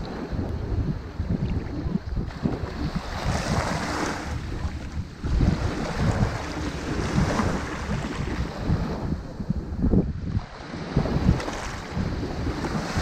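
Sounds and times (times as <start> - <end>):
small waves breaking on beach: 0.0 - 9.0, 10.3 - 13.0
wind buffeting microphone: 0.0 - 13.0.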